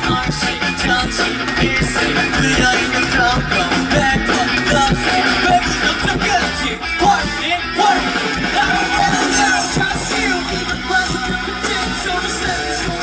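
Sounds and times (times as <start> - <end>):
electric guitar: 0.0 - 13.0
live rock band: 0.0 - 13.0
person singing: 0.0 - 13.0.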